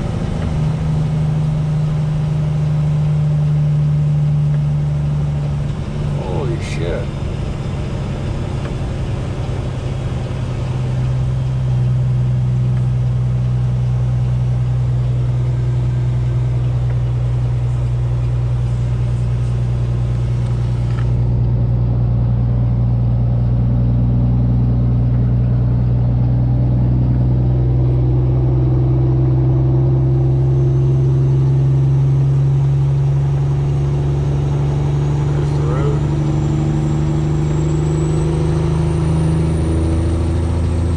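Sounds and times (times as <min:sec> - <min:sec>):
vehicle engine and road noise: 0:00.0 - 0:40.9.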